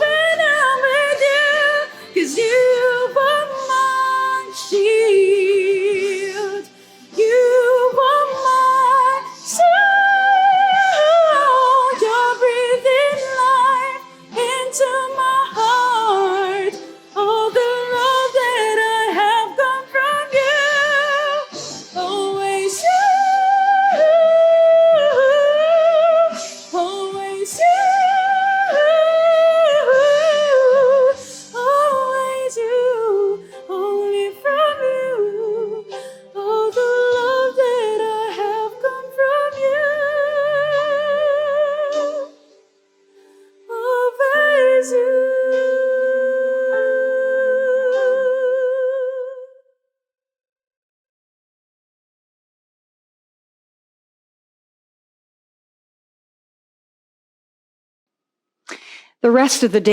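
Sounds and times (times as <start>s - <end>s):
woman singing a slow song: 0.0s - 42.5s, 43.6s - 49.7s.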